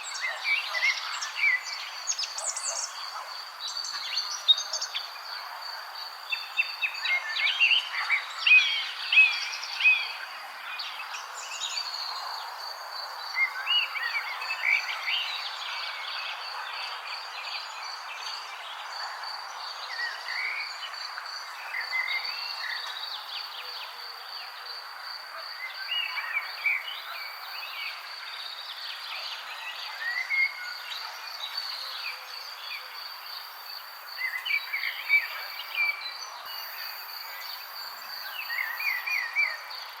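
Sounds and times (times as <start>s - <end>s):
faint outdoor hiss: 0.0s - 40.0s.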